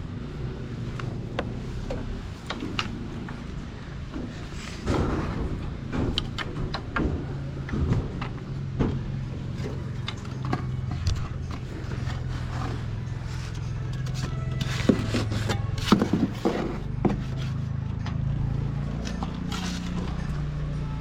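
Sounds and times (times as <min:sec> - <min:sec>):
steady motor hum: 0:00.0 - 0:21.0
knocks and clatter: 0:01.4 - 0:20.5.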